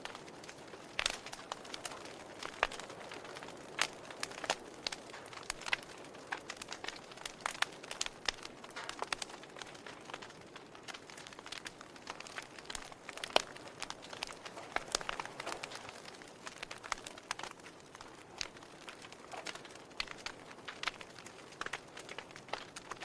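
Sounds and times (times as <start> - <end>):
soft fire hiss: 0.0 - 23.0
wood fire crackling: 0.0 - 23.0.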